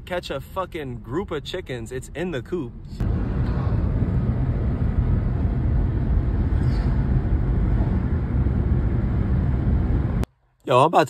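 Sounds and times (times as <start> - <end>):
car road and wind noise: 0.0 - 10.2.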